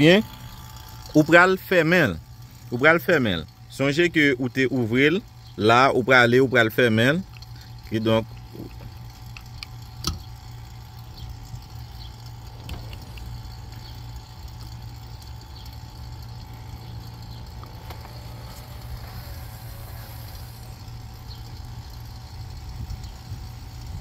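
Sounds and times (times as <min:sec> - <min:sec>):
gauge valve clicks: 0:00.0 - 0:24.0
vacuum pump humming: 0:00.0 - 0:24.0.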